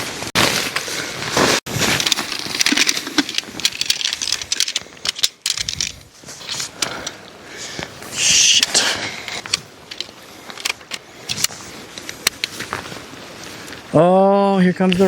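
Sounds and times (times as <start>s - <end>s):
camping gear rustling and clicking: 0.0s - 14.0s, 14.8s - 15.0s.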